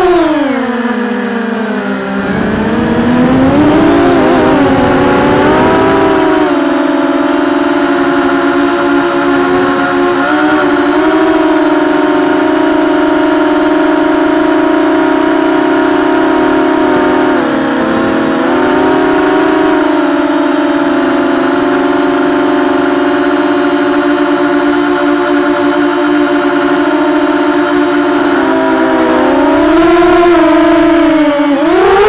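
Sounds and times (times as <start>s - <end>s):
motor spinning propeller whine: 0.0s - 32.0s.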